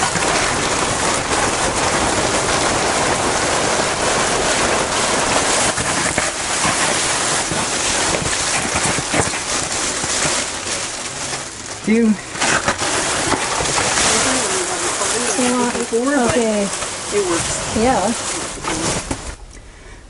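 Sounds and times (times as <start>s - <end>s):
plastic sheeting rustling: 0.0s - 19.5s.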